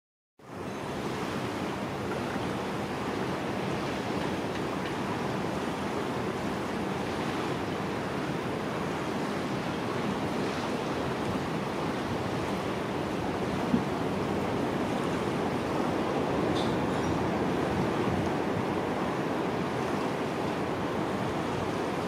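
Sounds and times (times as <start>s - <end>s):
surf from breaking waves: 0.4s - 22.0s.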